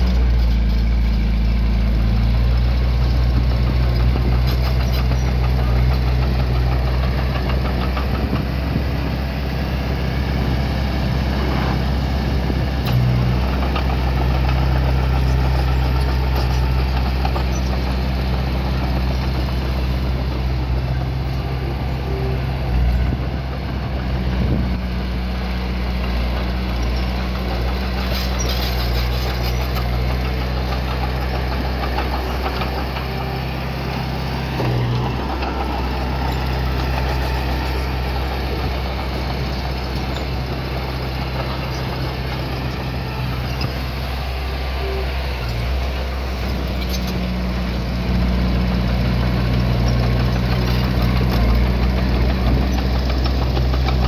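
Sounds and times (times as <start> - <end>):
diesel engine running low: 0.0 - 54.0.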